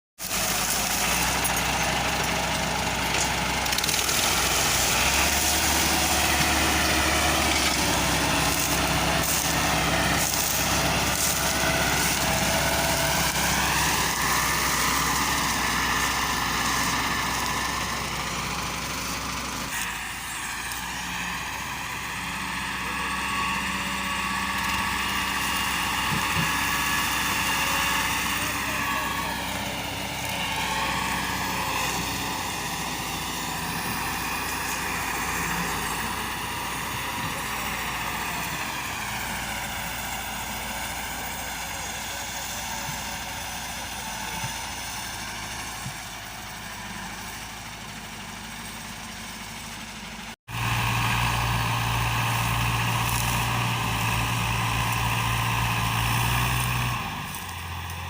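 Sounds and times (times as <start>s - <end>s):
tractor diesel engine running: 0.2s - 58.0s.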